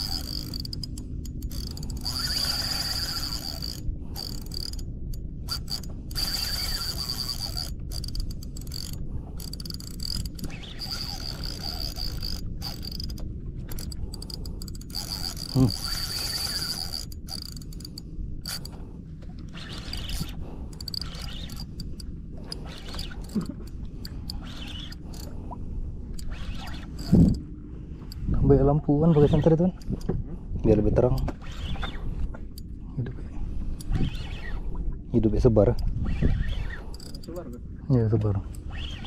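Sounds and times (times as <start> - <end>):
fishing reel whirring and clicking: 0.0 - 18.8, 19.4 - 28.4, 29.0 - 30.1, 30.9 - 32.7, 33.7 - 34.8, 35.6 - 37.6, 38.5 - 39.0.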